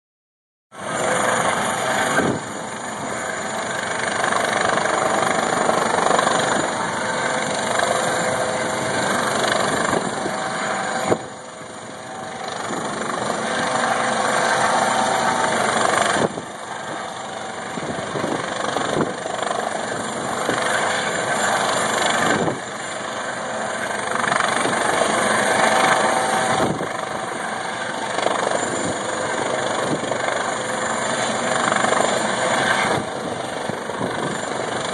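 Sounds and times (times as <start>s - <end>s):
helicopter rotor and engine: 0.7s - 34.9s.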